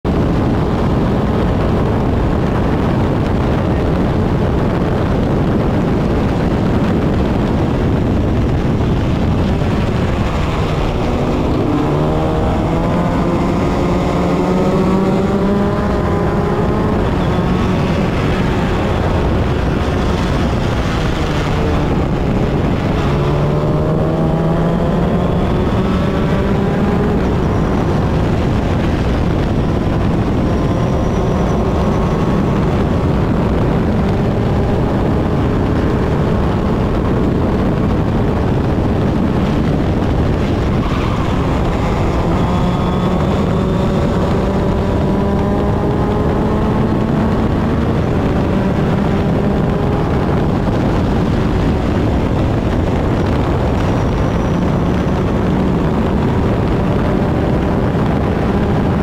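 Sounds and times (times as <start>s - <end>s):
race car engine revving: 0.0s - 59.0s
wind noise on microphone: 0.0s - 59.0s.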